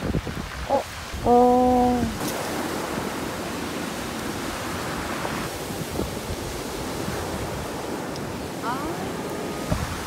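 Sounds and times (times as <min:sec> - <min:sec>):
sea waves washing against rocks: 0:00.0 - 0:10.0.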